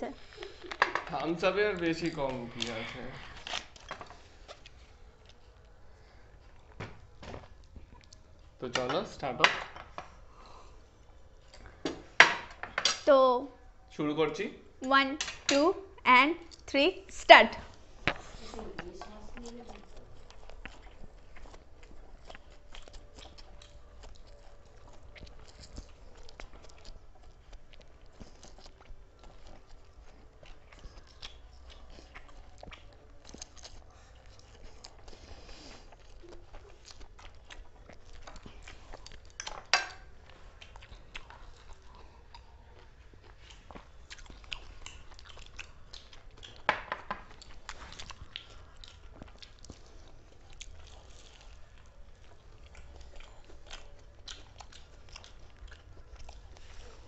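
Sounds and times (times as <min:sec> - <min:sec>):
people chewing and crunching: 0:00.0 - 0:13.1, 0:13.7 - 0:57.0.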